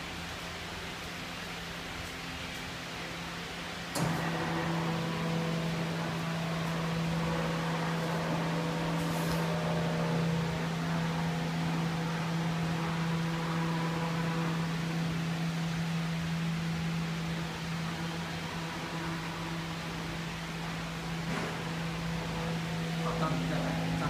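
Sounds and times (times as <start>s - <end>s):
stepper motors humming: 0.0s - 24.0s.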